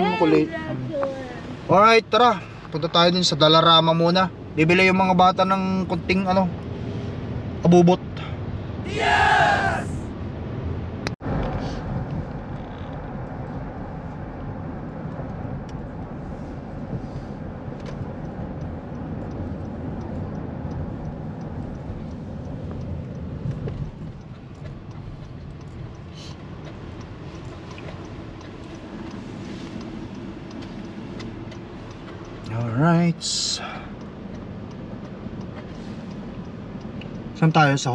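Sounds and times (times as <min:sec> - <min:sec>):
car road and engine noise: 0:00.0 - 0:37.9.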